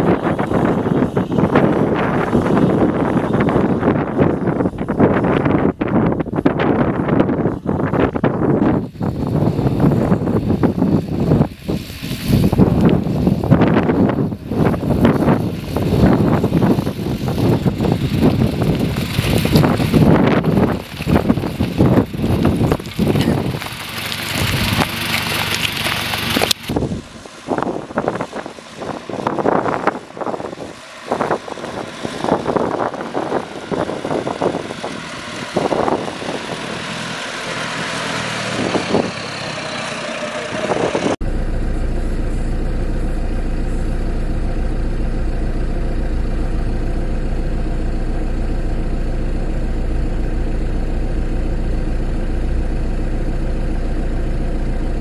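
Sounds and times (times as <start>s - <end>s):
wind buffeting microphone: 0.0s - 54.4s
pickup engine at low revs: 0.0s - 55.0s.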